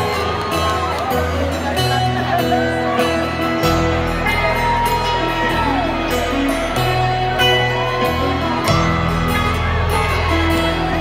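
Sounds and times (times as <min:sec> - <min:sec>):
piano: 0:00.0 - 0:11.0
strummed guitar rhythm: 0:00.0 - 0:11.0
upright bass low notes: 0:00.0 - 0:11.0.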